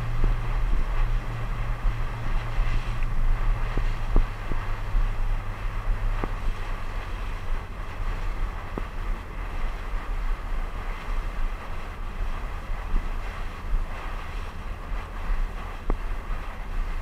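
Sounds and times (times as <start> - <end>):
boat wake water splashing: 0.0 - 17.0
wind buffeting the microphone: 0.0 - 17.0.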